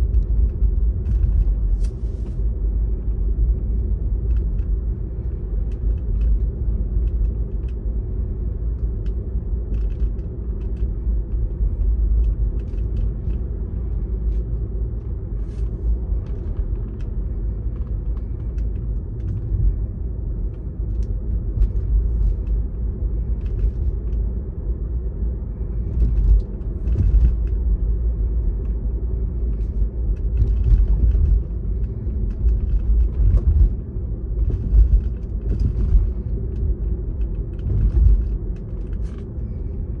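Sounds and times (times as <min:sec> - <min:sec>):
car interior road rumble: 0:00.0 - 0:40.0.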